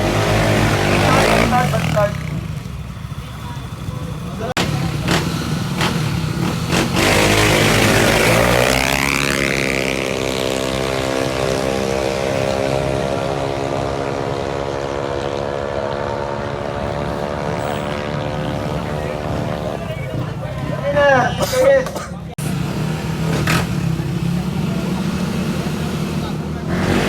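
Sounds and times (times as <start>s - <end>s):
scooter engines at full throttle: 0.0s - 27.0s.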